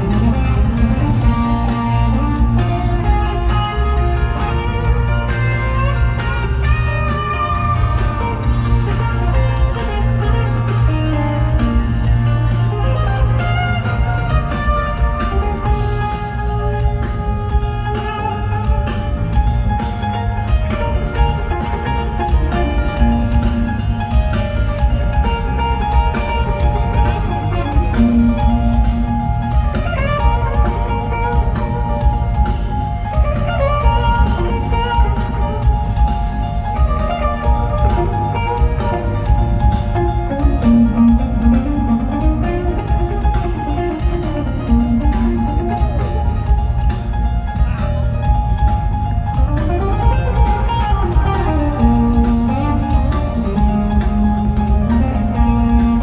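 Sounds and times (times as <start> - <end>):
lead guitar: 0.0 - 56.0
live rock band playing: 0.0 - 56.0.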